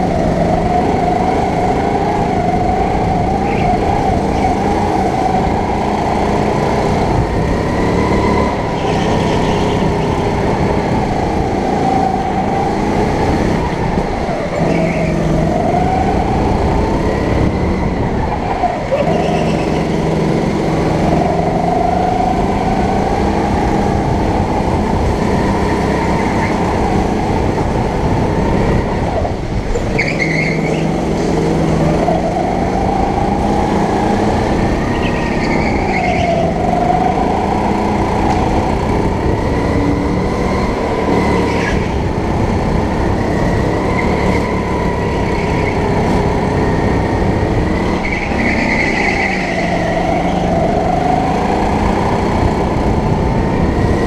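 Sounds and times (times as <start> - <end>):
go-kart engine running hard: 0.0 - 54.0.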